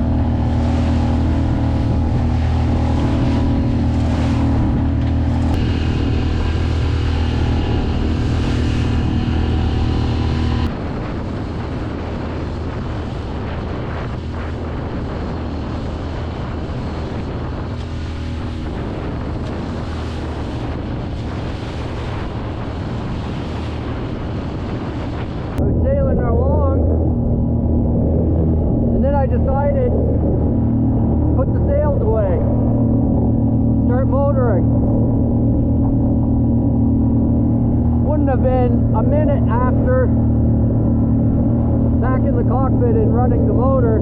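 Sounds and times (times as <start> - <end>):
boat motor running: 0.0 - 44.0
water washing: 0.0 - 44.0
wind noise on microphone: 0.0 - 44.0.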